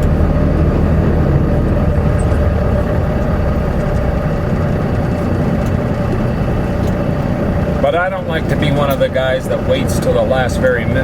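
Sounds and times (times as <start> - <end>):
constant hum: 0.0 - 11.0
truck diesel engine running: 0.0 - 11.0.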